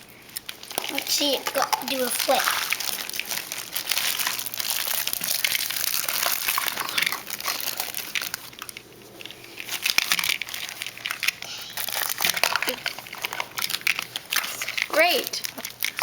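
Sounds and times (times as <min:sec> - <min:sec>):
plastic wrappers crinkling: 0:00.0 - 0:16.0.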